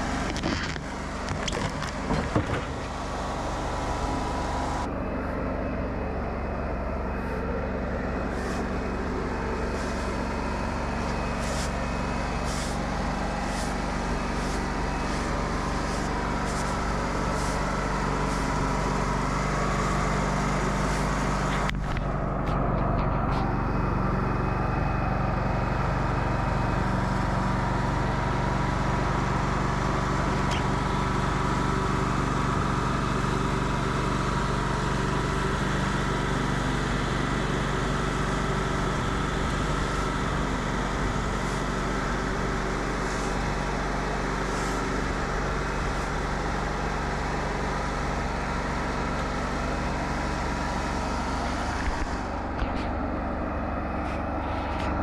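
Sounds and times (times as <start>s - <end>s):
bandsaw mill sawing a log: 0.0s - 55.0s.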